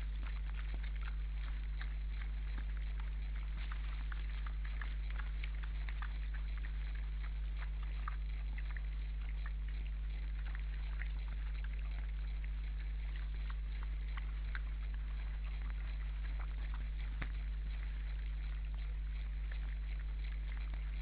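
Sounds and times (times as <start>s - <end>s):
animals chewing and rooting: 0.0s - 21.0s
low hum: 0.0s - 21.0s.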